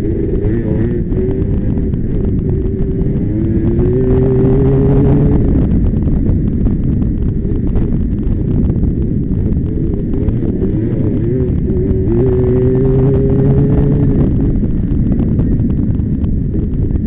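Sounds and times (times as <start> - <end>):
quad engine running: 0.0 - 17.0
wind buffeting microphone: 0.0 - 17.0.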